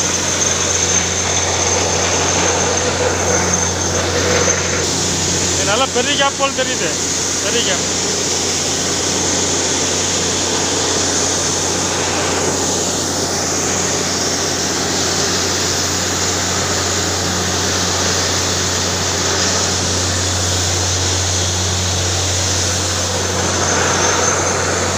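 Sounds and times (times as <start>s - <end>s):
drilling rig engine drone: 0.0s - 24.9s.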